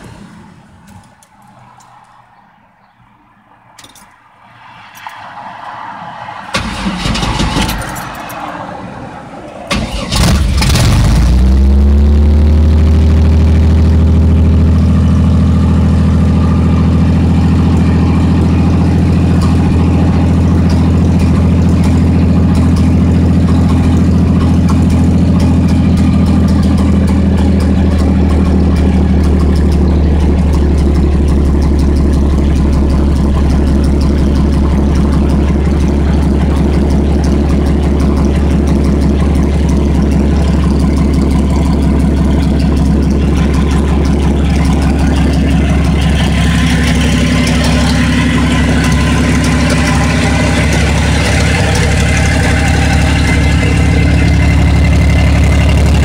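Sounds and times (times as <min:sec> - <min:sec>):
car engine idling: 0:05.7 - 0:56.0.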